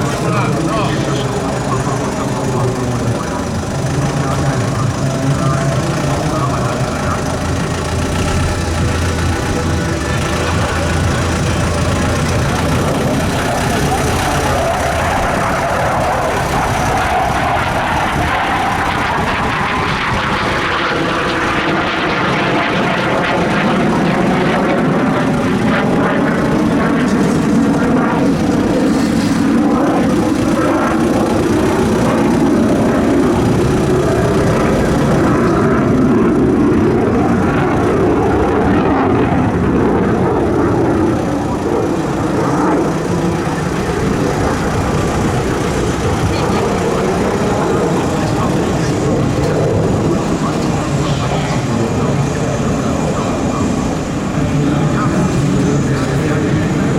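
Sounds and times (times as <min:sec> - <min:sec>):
helicopter rotor and turbine noise: 0:00.0 - 0:56.9.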